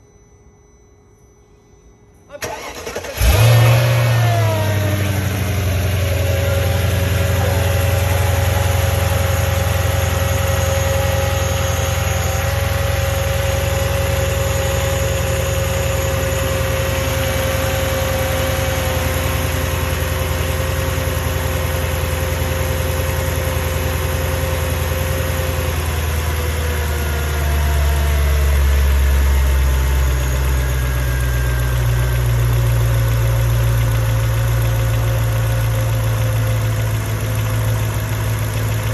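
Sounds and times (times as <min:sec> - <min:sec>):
car engine idling: 0:02.4 - 0:38.9.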